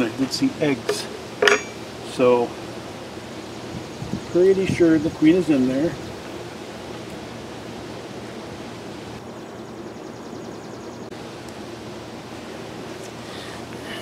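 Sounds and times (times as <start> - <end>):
honeybees humming: 0.0 - 14.0
outdoor hiss: 0.0 - 14.0.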